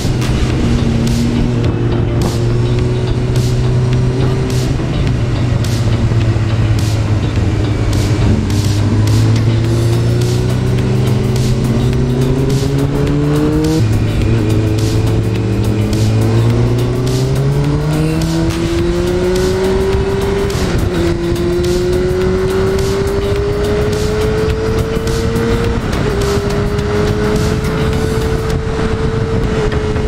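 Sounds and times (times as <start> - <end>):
motorcycle engine accelerating: 0.0 - 30.0
wind on microphone: 0.0 - 30.0.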